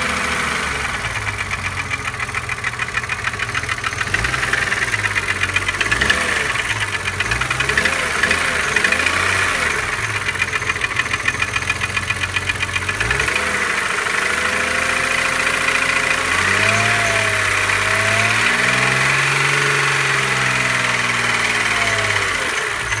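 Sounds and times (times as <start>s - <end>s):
car engine running: 0.0s - 23.0s
fast regular engine ticking: 0.0s - 23.0s.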